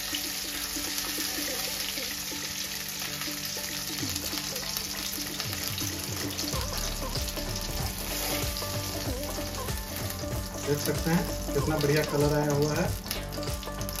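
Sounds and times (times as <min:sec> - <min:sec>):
oil sizzling in a frying pan: 0:00.0 - 0:14.0
soft background music: 0:00.0 - 0:14.0.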